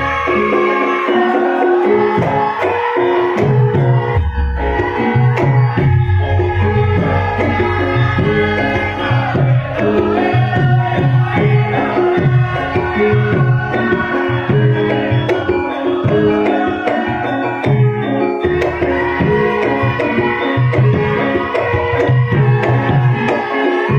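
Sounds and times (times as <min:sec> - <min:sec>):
melodic instruments: 0:00.0 - 0:23.9
hand drum patterns: 0:01.8 - 0:23.9.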